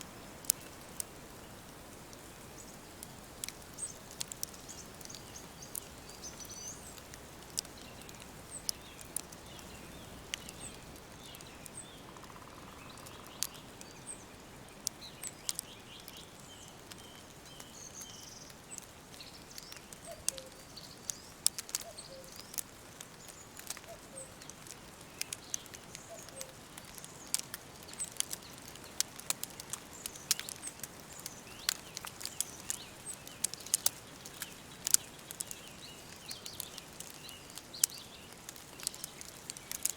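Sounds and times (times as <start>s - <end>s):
sharp crackles: 0.0s - 39.9s
small birds chirping: 0.0s - 39.9s
soft steady hiss: 0.0s - 39.9s.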